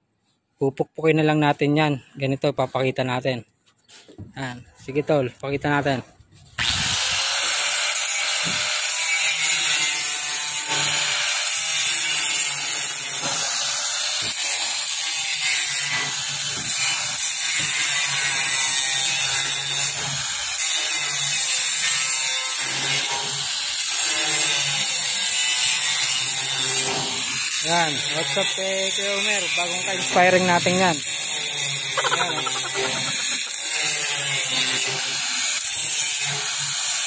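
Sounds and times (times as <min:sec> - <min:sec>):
angle grinder cutting steel: 0:06.6 - 0:37.0.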